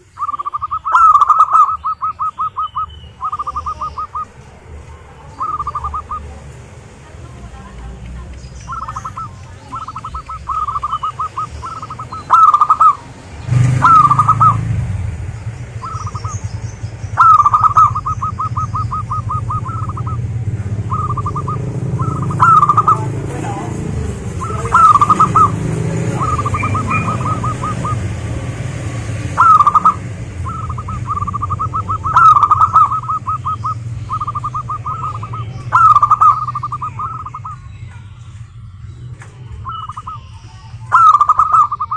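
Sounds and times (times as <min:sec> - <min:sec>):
doves cooing: 0:00.0 - 0:41.9.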